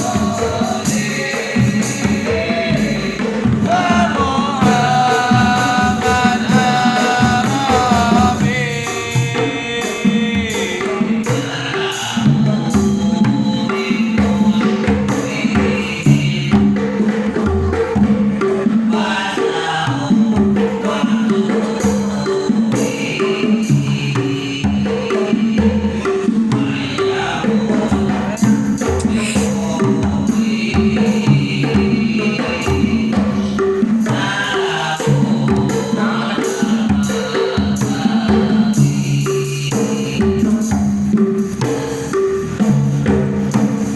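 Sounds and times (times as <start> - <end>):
person singing a melody: 0.0 - 18.0, 18.7 - 42.5
hand percussion beat: 0.0 - 43.9.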